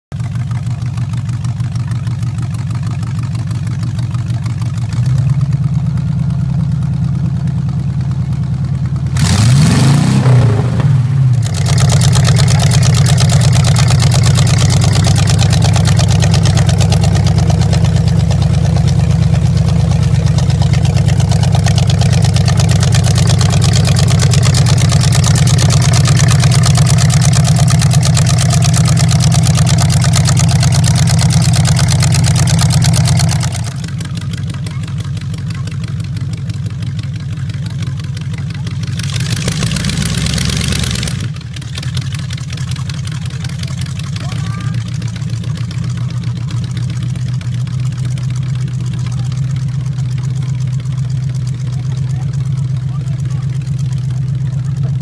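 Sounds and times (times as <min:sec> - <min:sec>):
car engine idling and revving: 0:00.1 - 0:55.0.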